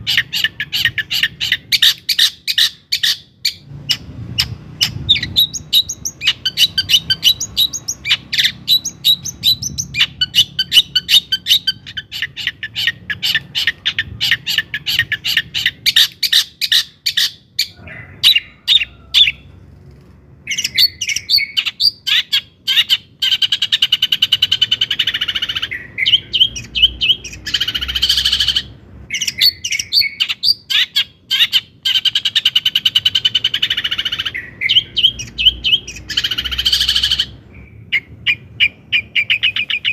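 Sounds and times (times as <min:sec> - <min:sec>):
bird chattering song: 0:00.0 - 0:19.5, 0:20.4 - 0:39.9.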